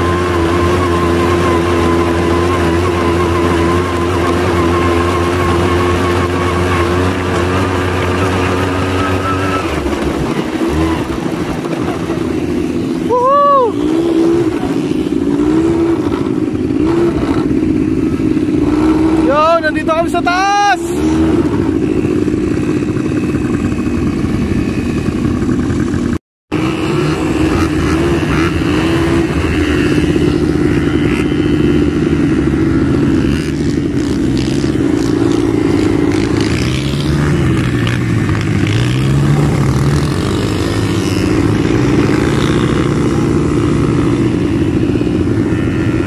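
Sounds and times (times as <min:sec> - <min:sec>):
quad bike engines revving: 0:00.0 - 0:46.0.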